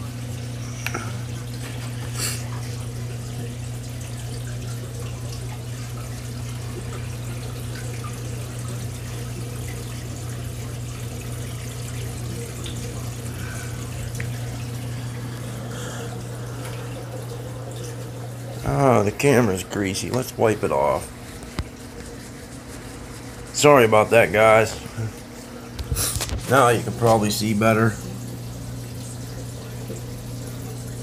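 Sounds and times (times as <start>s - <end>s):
low equipment hum: 0.0s - 31.0s
water trickling and splashing: 0.0s - 31.0s.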